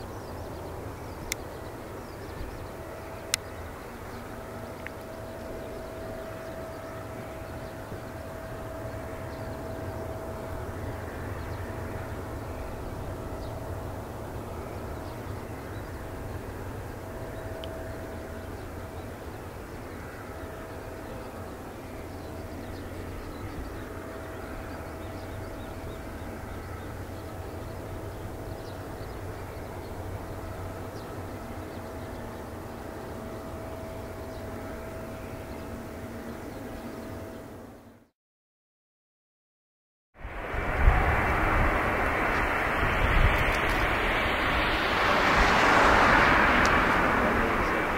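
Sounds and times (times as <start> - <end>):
jet engines running: 0.0 - 37.8, 40.2 - 47.9.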